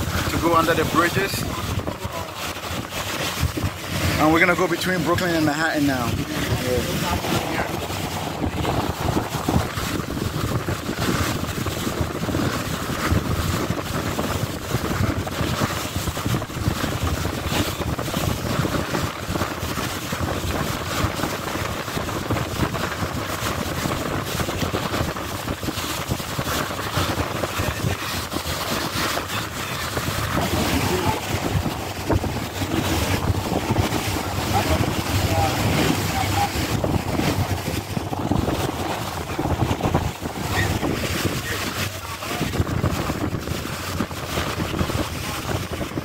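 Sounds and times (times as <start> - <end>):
boat running noise: 0.0 - 46.0
water washing along hull: 0.0 - 46.0
wind buffeting microphone: 0.0 - 46.0.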